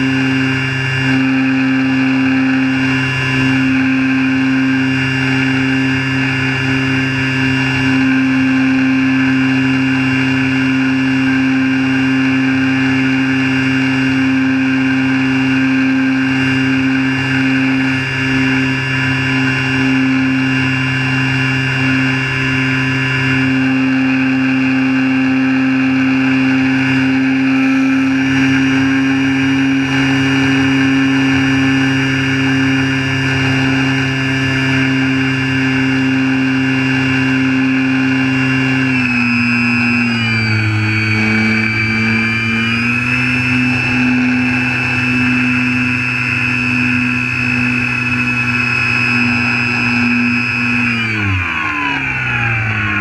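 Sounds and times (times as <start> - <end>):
model airplane motor and propeller: 0.0 - 53.0.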